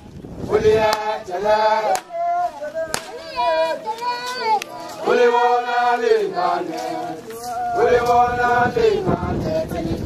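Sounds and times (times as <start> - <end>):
group of voices chanting: 0.5 - 10.0.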